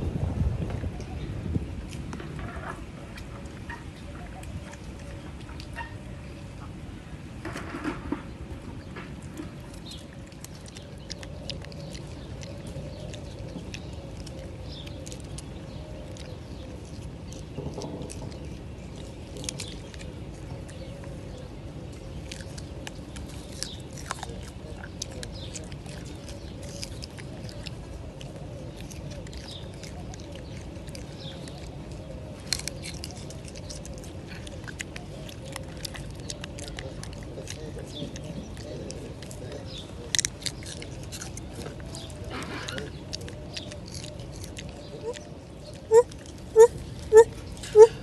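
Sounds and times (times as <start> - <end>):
gibbon chewing fruit: 0.0 - 48.0.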